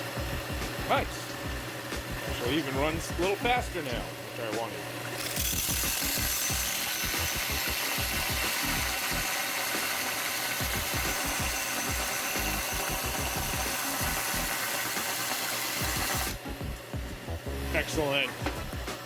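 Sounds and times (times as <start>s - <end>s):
belt sander running: 0.4s - 19.0s.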